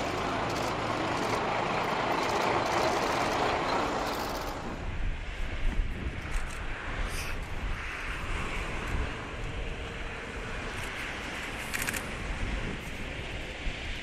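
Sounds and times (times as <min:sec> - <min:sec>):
diesel train rumbling: 0:00.0 - 0:14.0
wind buffeting microphone: 0:00.0 - 0:14.0.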